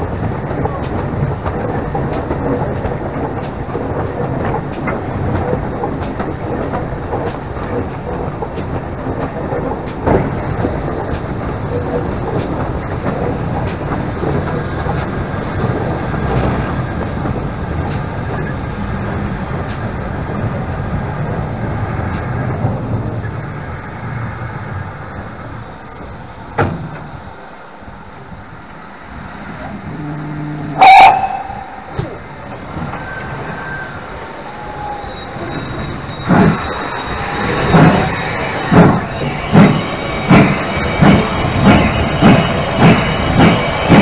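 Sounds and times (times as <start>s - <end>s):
train wheel clicks: 0.0s - 23.0s, 30.8s - 44.0s
steam locomotive rumble: 0.0s - 44.0s.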